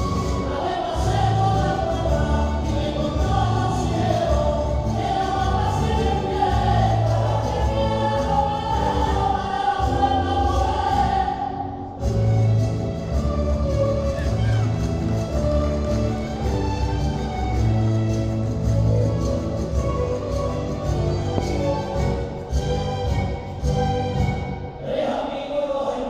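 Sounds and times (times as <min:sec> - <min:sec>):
music with singing voices: 0:00.0 - 0:26.0.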